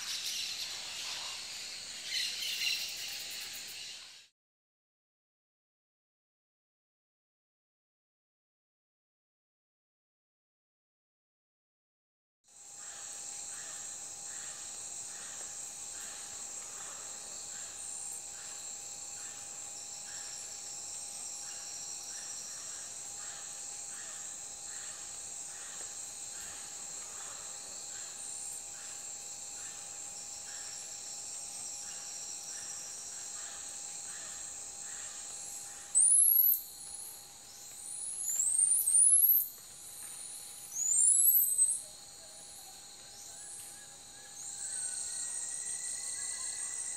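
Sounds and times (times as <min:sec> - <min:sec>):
insects buzzing: 0:00.0 - 0:04.3, 0:12.5 - 0:46.9
soft pulsing insect sound: 0:00.0 - 0:04.3, 0:12.5 - 0:46.9.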